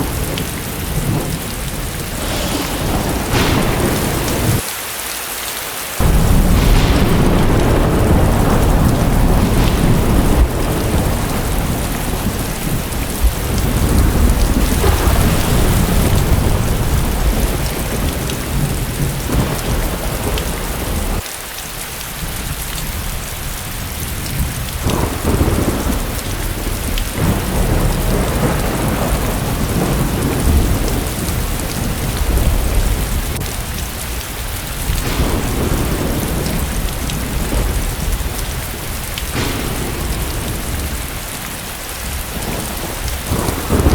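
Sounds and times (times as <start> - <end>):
low rolling thunder: 0.0 - 4.6, 6.0 - 21.2, 22.2 - 43.9
heavy rain pouring: 0.0 - 43.9.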